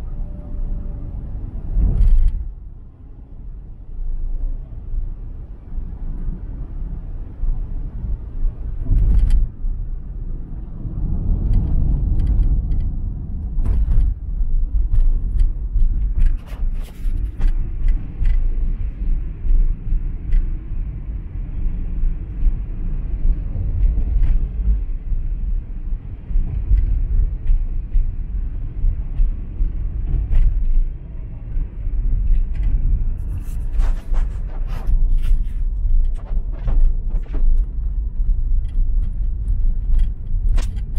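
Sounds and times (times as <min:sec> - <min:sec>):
road and engine rumble: 0:00.0 - 0:40.9.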